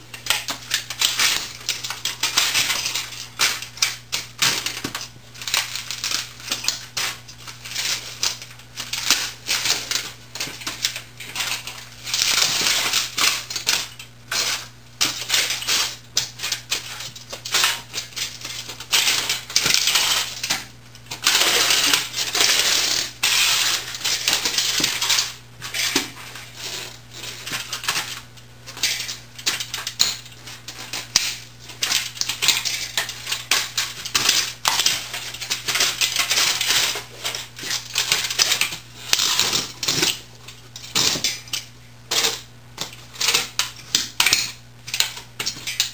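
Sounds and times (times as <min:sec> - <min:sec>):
pieces clattering: 0:00.1 - 0:45.9
boots crushing plastic and metal: 0:00.2 - 0:45.9.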